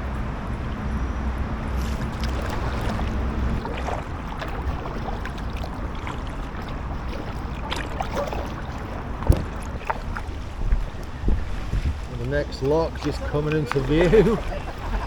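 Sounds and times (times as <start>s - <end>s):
steady low rumble: 0.0s - 15.0s
paddle splashing in water: 1.7s - 15.0s
water dripping off paddle: 1.8s - 14.6s.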